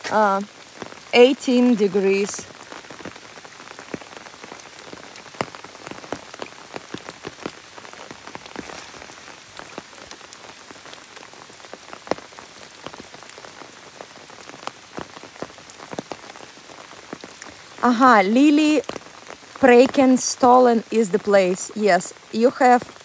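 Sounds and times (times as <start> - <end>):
rain hissing: 0.0 - 23.0
raindrops ticking close by: 0.0 - 23.0.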